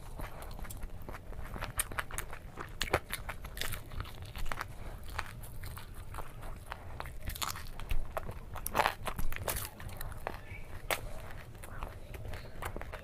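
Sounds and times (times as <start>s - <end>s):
person chewing fried chicken: 0.0s - 13.0s.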